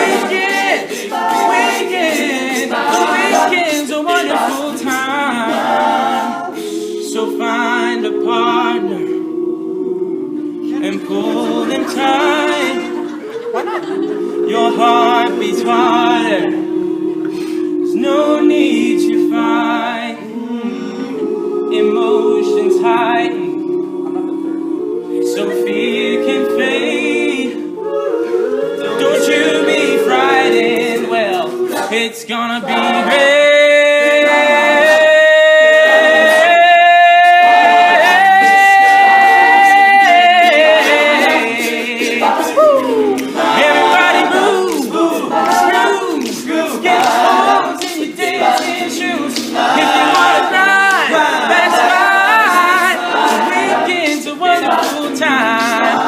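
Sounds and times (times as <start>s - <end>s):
men singing sustained chords: 0.0s - 56.0s
vocal percussion ticks: 0.0s - 56.0s.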